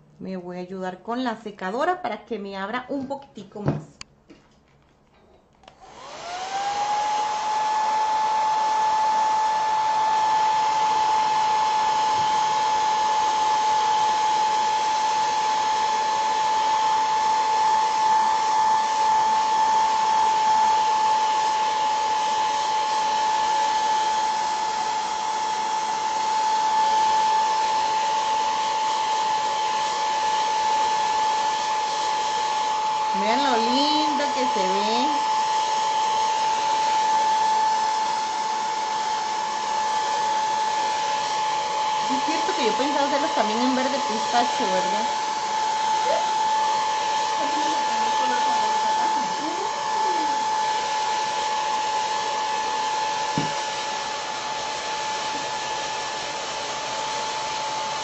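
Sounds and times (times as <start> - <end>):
hair dryer running: 5.6 - 58.0.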